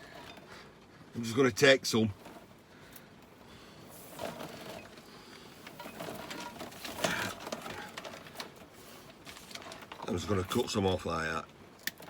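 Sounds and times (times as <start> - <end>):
cable rustling and clicking: 0.0 - 0.9, 2.0 - 12.0.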